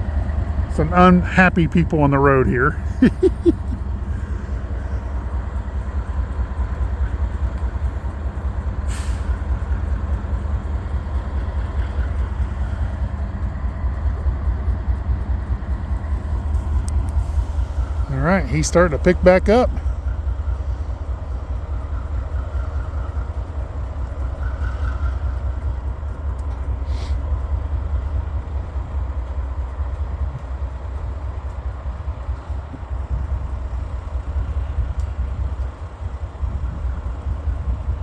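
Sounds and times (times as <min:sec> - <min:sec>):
freight train rumbling on rails: 0:00.0 - 0:38.0.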